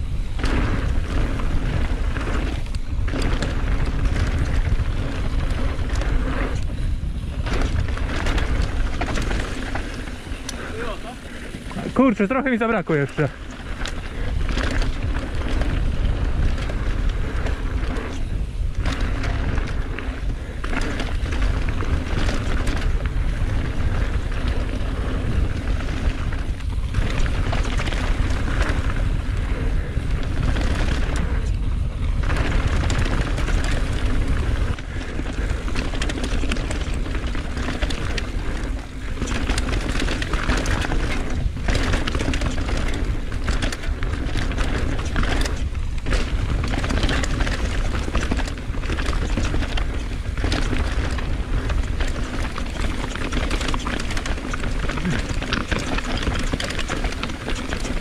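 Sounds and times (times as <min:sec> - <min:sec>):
bike rattling over dirt and rocks: 0:00.0 - 0:58.0
wind rumble on microphone: 0:00.0 - 0:58.0.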